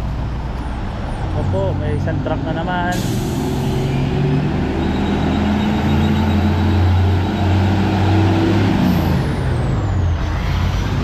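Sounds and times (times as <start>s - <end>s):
truck diesel engine passing: 0.8s - 11.0s.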